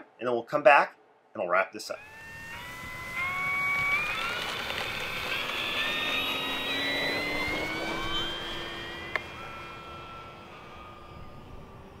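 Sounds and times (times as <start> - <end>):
electric motor and propeller whining: 1.9 - 12.0.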